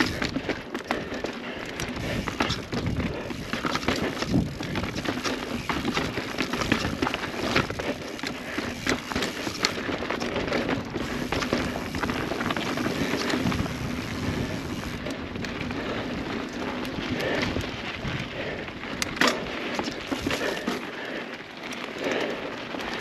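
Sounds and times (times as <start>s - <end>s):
bicycle tyre and wind rushing: 0.0s - 23.0s
bike clicking and rattling: 0.0s - 23.0s.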